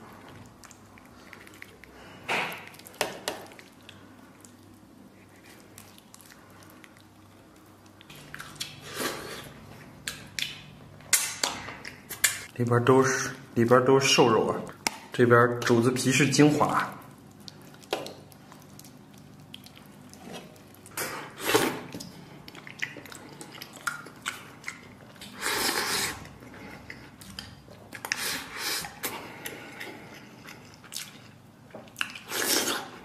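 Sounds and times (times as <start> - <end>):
wet chewing: 0.0 - 12.5, 16.6 - 33.0.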